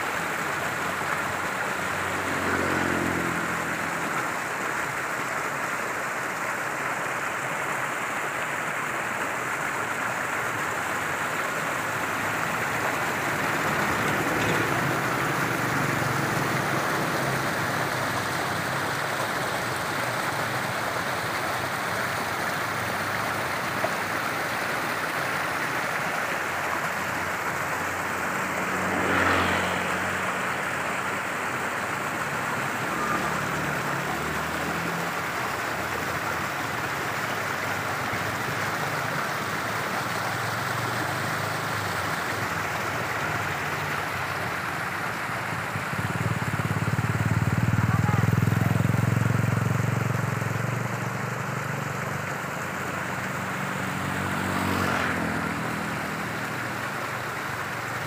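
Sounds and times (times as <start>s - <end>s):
steady outdoor hiss: 0.0s - 58.0s
vehicle engine passing: 0.1s - 6.0s, 10.4s - 58.0s.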